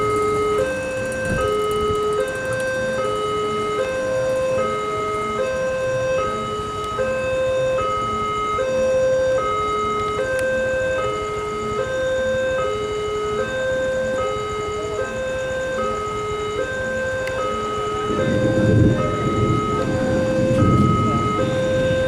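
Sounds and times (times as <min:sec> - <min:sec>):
two-tone crossing warning alarm: 0:00.0 - 0:22.0.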